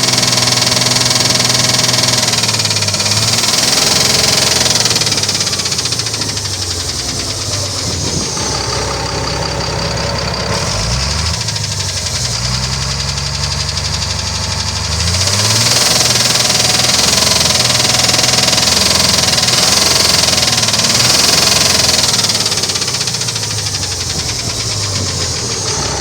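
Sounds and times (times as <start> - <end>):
engine running: 0.0 - 26.0
repetitive engine knock: 0.0 - 26.0.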